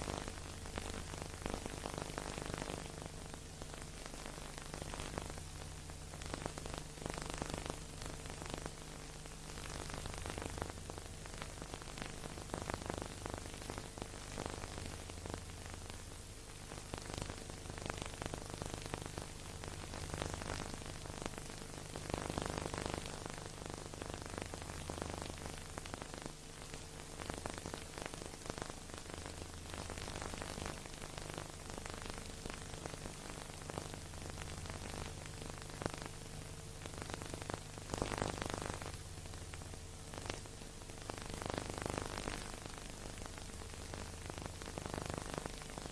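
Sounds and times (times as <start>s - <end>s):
crackles and clicks: 0.0s - 45.9s
recording hiss: 0.0s - 45.9s.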